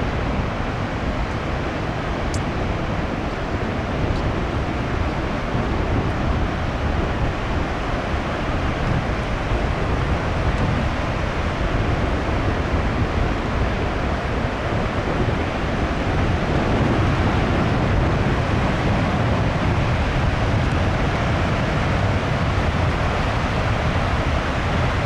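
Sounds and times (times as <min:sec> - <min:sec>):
surf breaking on coast: 0:00.0 - 0:25.0
wind buffeting microphone: 0:00.0 - 0:25.0.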